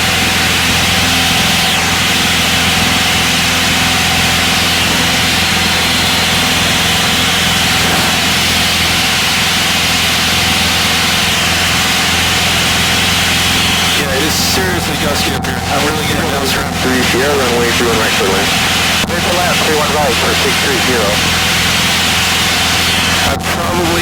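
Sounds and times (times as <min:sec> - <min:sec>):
aircraft engine droning: 0:00.0 - 0:24.0.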